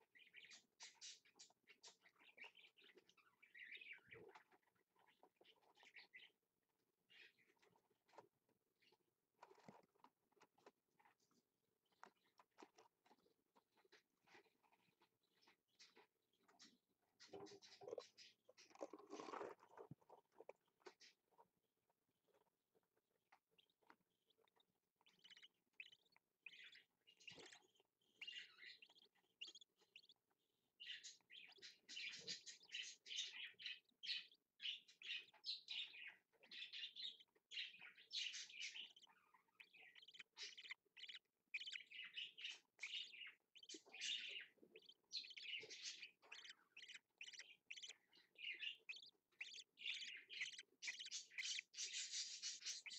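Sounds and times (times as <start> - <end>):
budgerigars chirping: 0.0 - 6.4, 7.1 - 8.2, 11.9 - 19.6, 23.3 - 52.9.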